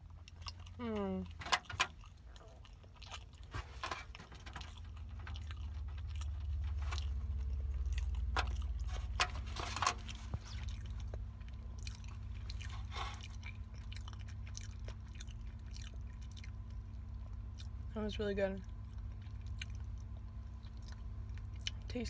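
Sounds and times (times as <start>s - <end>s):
person chewing food: 0.0s - 17.9s, 18.6s - 21.9s
low rumble: 4.3s - 22.0s.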